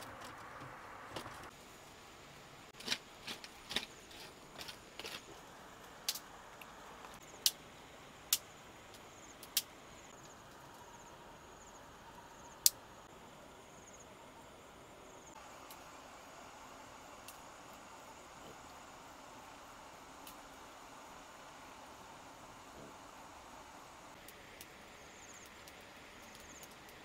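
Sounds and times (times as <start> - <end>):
insects trilling: 3.2 - 27.0.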